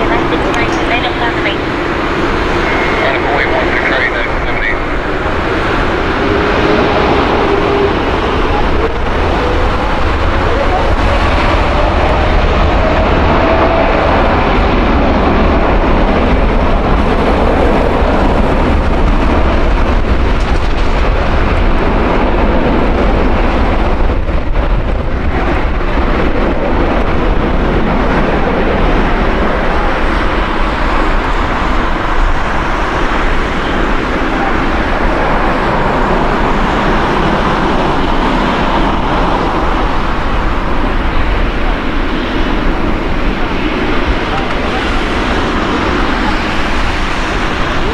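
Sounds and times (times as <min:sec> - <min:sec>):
loud jet engine roar: 0:00.0 - 0:47.9.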